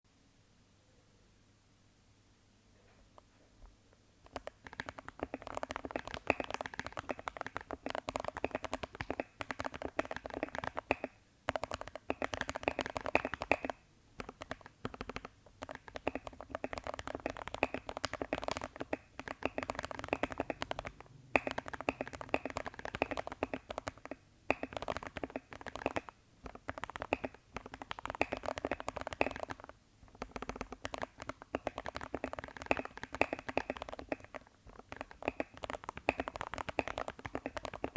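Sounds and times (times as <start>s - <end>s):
mechanical keyboard typing: 4.2s - 37.9s.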